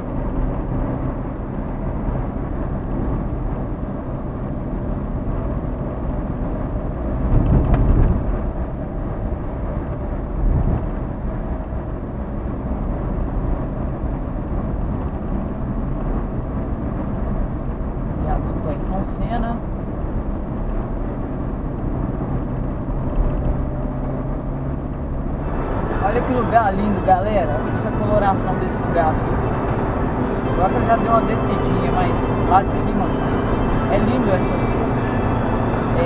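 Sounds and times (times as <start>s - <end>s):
car engine and road drone: 0.0s - 36.0s
low rumble: 0.0s - 36.0s.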